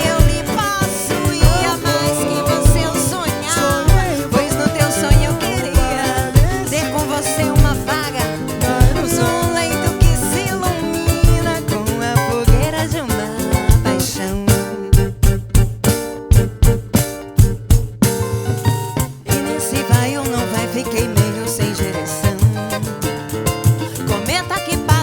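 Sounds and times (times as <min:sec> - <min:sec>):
drums and percussion: 0:00.0 - 0:25.0
strummed strings: 0:00.0 - 0:25.0.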